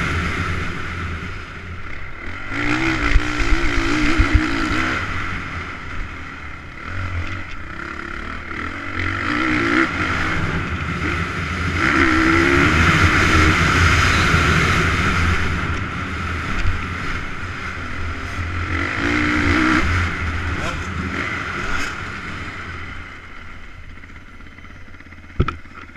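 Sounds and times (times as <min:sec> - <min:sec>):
motocross bike engine revving: 0:00.0 - 0:25.4.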